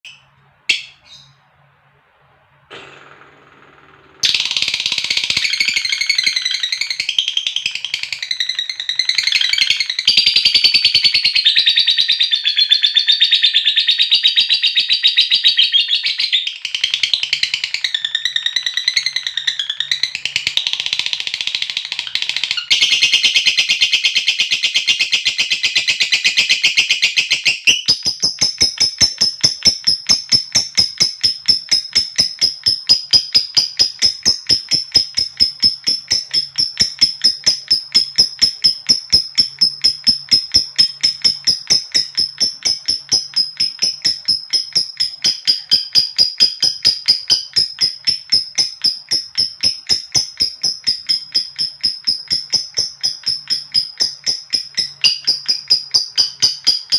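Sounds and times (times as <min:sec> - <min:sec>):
lovebird rapid ticking notes: 0:00.1 - 0:01.2, 0:04.2 - 0:12.0, 0:16.4 - 0:56.9
lovebird high-pitched chatter: 0:00.1 - 0:01.4, 0:04.2 - 0:56.9.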